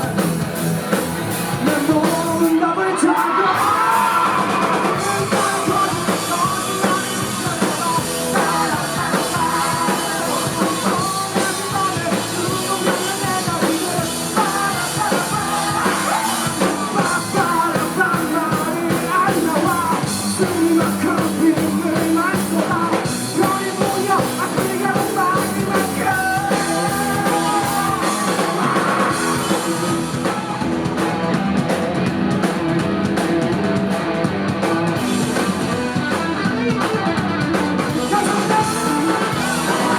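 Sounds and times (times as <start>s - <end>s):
live rock band playing: 0.0s - 39.9s
lead vocal singing: 1.5s - 31.7s, 34.6s - 39.9s.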